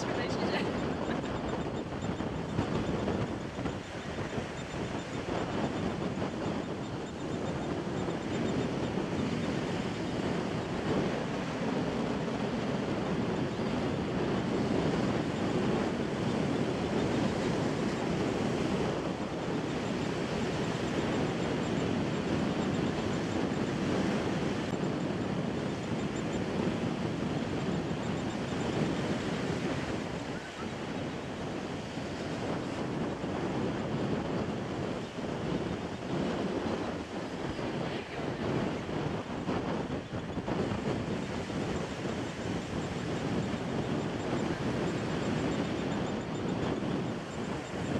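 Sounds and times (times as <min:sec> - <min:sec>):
surf on a beach: 0:00.0 - 0:47.9
wind buffeting microphone: 0:00.0 - 0:47.9.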